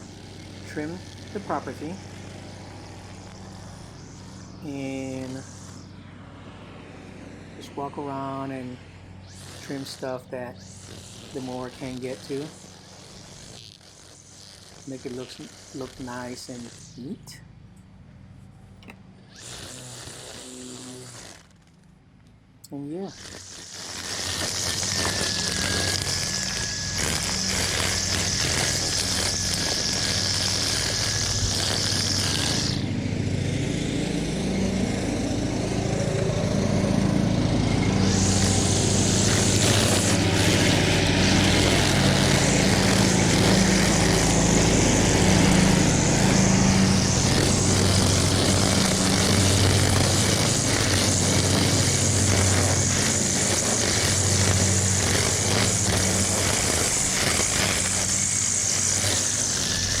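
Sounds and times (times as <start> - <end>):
string trimmer cutting grass: 0.0 - 60.0.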